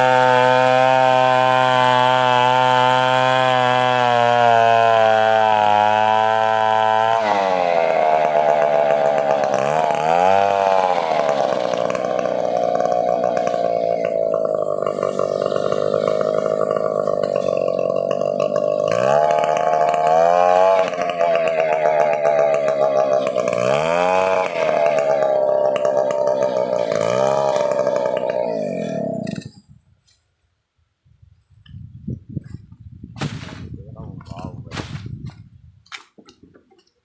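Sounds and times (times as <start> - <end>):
chainsaw cutting wood: 0.0 - 30.2, 32.5 - 37.0.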